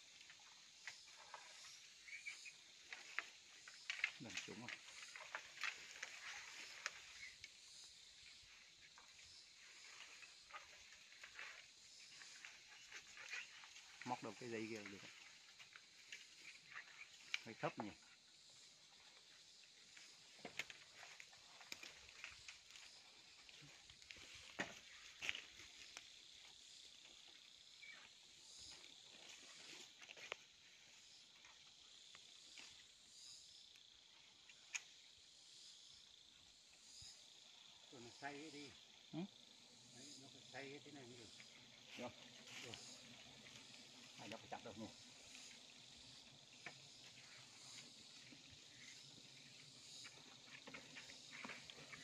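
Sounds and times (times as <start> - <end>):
high insect hum: 0.0 - 52.0.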